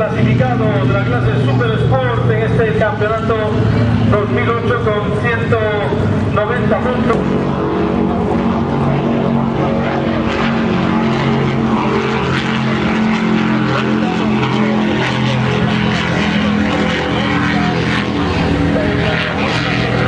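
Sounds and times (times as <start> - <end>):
motorboat engines droning: 0.0 - 20.0.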